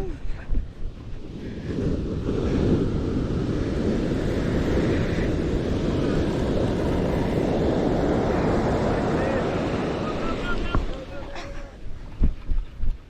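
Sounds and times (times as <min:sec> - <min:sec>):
wind buffeting microphone: 0:00.0 - 0:13.0
surf breaking on beach: 0:01.0 - 0:11.9.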